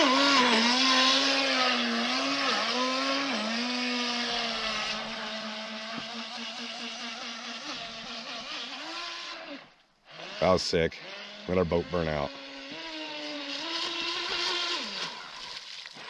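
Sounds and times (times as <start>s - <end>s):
model boat motor whining: 0.0s - 16.0s
water churning: 0.0s - 16.0s.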